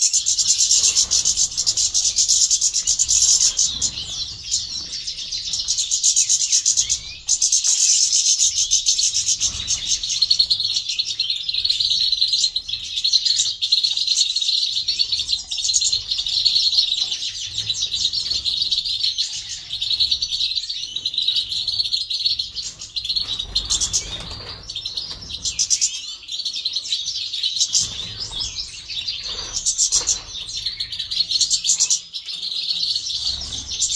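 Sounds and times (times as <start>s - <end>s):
finches twittering: 0.0s - 33.9s.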